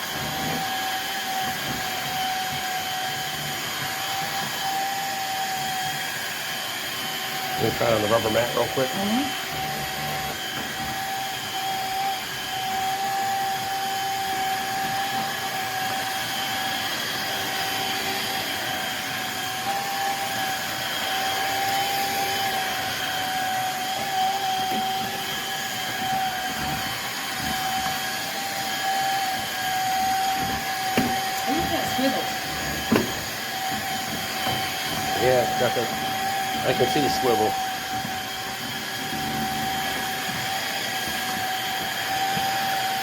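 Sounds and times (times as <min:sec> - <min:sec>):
vacuum mop motor whining: 0:00.0 - 0:43.0.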